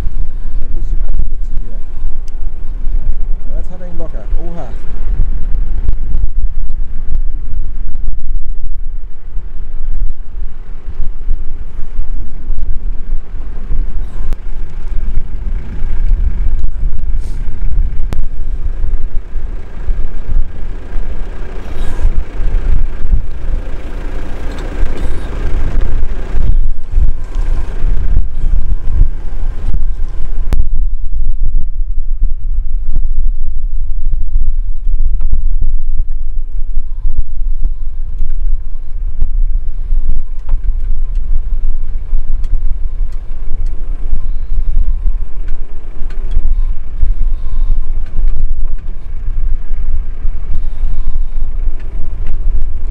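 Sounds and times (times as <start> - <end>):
truck engine running: 0.0 - 52.9
wind buffeting microphone: 0.0 - 52.9.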